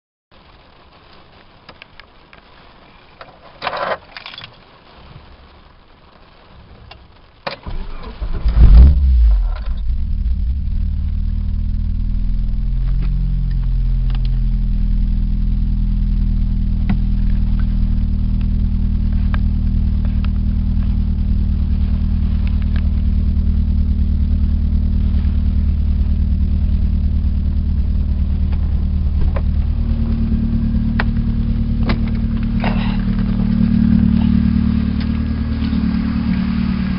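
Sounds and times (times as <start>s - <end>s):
car engine cranking and idling: 6.7s - 36.9s.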